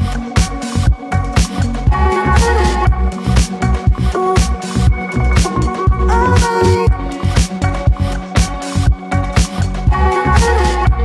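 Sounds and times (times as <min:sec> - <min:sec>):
upbeat funk music with drums: 0:00.0 - 0:10.8.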